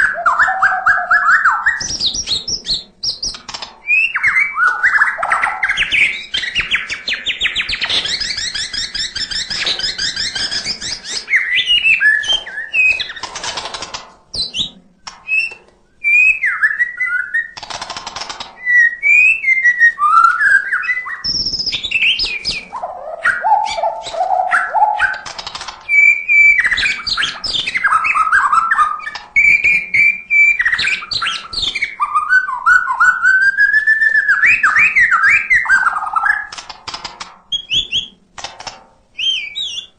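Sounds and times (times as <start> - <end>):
songbird singing: 0.0 - 13.3, 14.3 - 17.6, 18.6 - 36.6, 37.5 - 38.2, 39.1 - 39.9
harsh rasping bird notes: 0.0 - 32.9.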